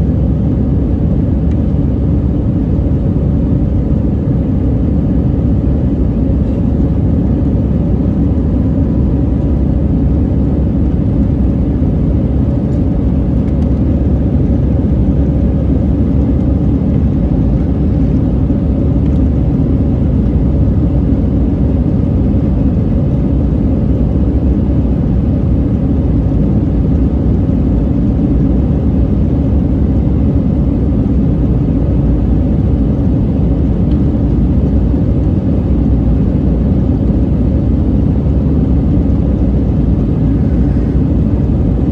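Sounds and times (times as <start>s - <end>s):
airplane cabin engine noise: 0.0s - 41.9s.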